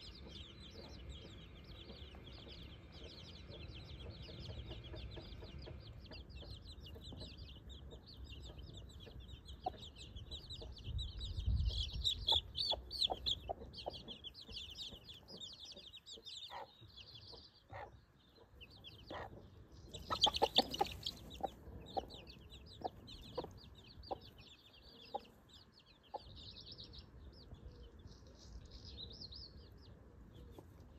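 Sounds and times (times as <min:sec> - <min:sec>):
hen clucking: 0:00.0 - 0:27.9
baby chicks peeping: 0:00.0 - 0:30.9.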